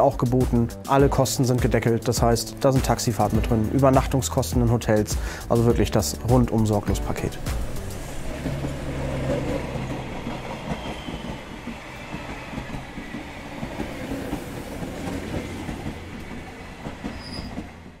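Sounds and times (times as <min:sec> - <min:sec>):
train rumbling on rails: 0:02.0 - 0:18.0.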